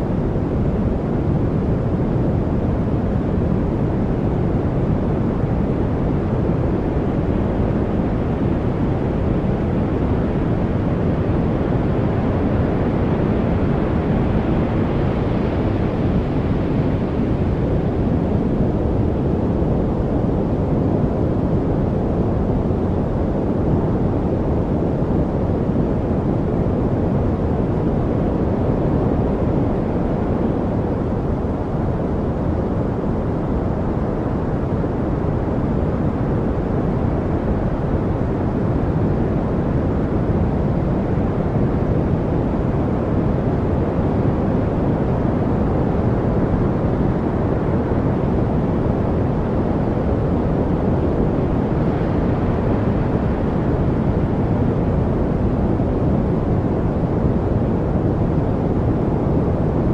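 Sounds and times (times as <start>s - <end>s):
deep white noise: 0.0s - 59.9s.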